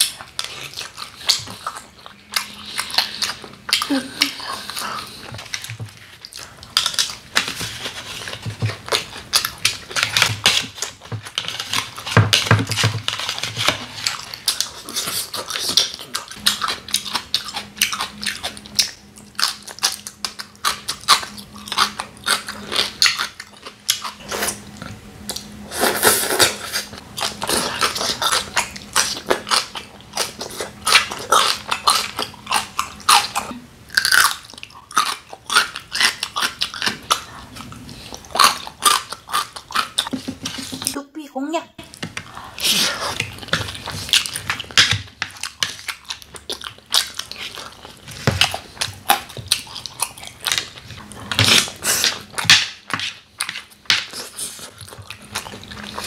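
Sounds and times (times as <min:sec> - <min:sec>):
wet chewing sounds: 0:00.0 - 0:41.0, 0:41.8 - 0:56.0.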